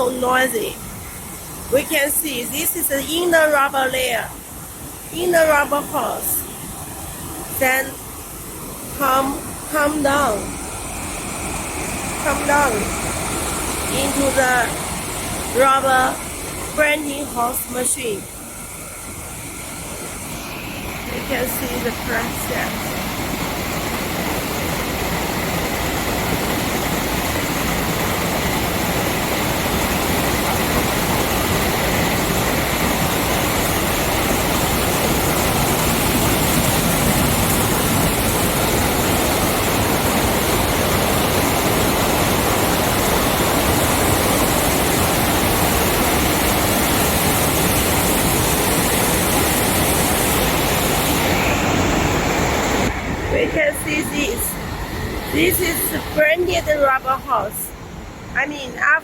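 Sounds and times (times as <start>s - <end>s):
braiding machines running: 7.0s - 57.4s.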